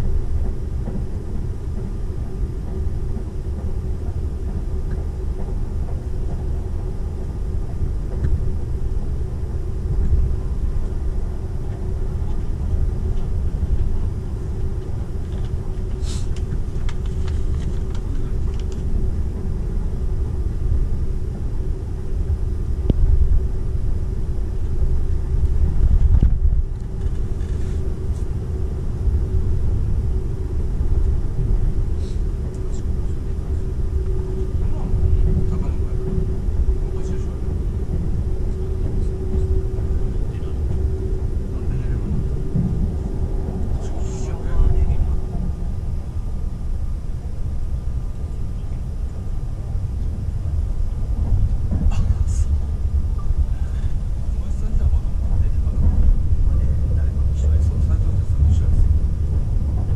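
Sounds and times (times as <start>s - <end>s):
constant hum: 0.0s - 59.9s
train wheels rumbling on rail: 0.0s - 59.9s.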